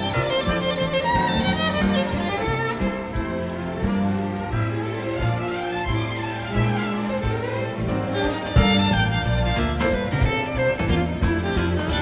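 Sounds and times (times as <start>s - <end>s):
swing jazz led by violin: 0.0s - 12.0s.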